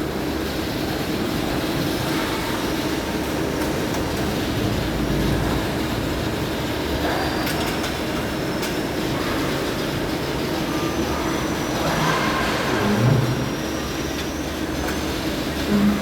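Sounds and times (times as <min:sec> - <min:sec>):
machine droning: 0:00.0 - 0:16.0.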